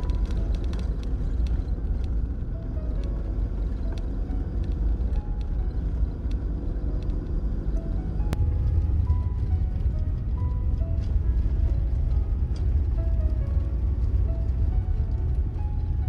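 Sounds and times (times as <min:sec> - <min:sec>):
soft background music: 0:00.0 - 0:16.0
vehicle engine and tyres rumbling: 0:00.0 - 0:16.0.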